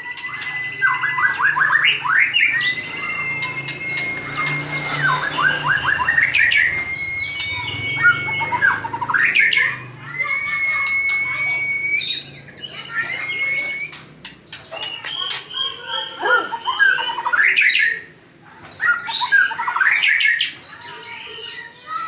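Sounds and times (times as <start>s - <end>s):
bird whistling and chattering: 0.0s - 22.0s.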